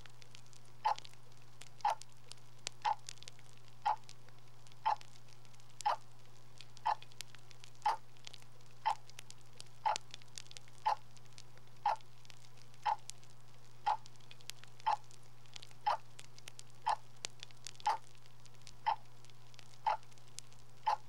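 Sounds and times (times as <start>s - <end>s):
faint crackling: 0.0s - 21.0s
steady ticking: 0.3s - 21.0s.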